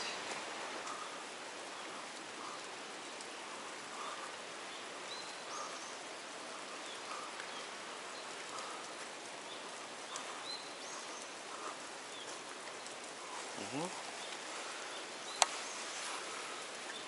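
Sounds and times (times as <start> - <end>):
creek running over spillway: 0.0 - 17.0
rain falling on a creek: 0.0 - 17.0.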